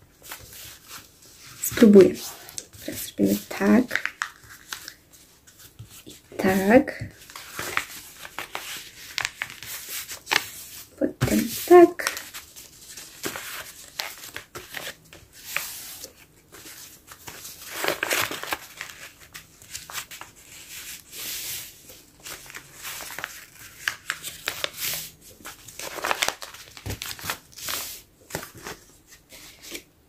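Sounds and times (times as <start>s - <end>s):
paper crinkling while folded: 0.1s - 29.8s.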